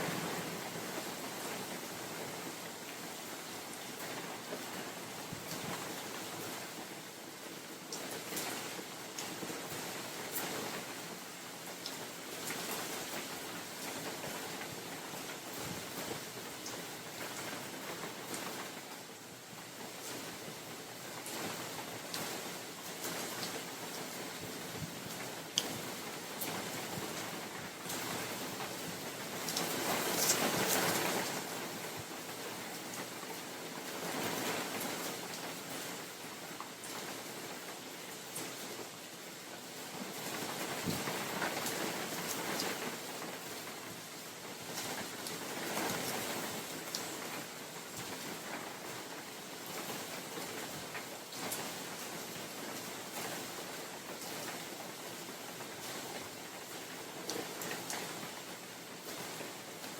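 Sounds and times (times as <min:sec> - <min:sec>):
rain on forest canopy: 0:00.0 - 0:59.9
wind gusting through trees: 0:00.0 - 0:59.9.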